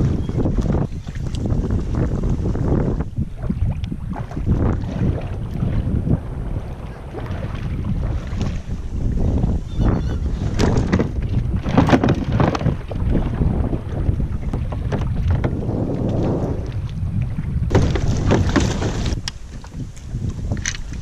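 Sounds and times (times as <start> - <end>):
water splashing: 0.0 - 21.0
wind buffeting microphone: 0.0 - 21.0.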